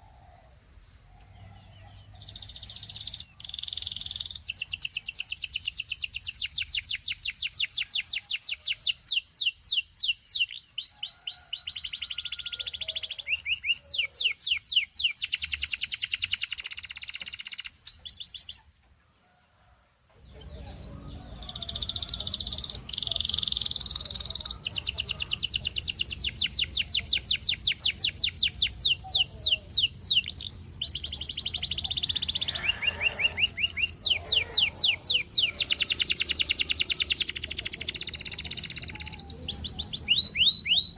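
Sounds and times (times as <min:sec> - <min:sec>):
canary singing trills: 0:01.1 - 0:18.7, 0:20.2 - 0:40.9.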